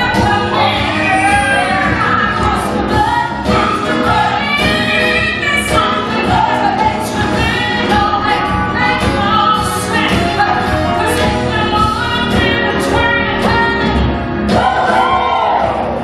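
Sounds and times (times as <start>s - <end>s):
band accompaniment with steady beat: 0.0s - 16.0s
ensemble voices singing: 0.0s - 16.0s
woman singing lead: 0.0s - 16.0s.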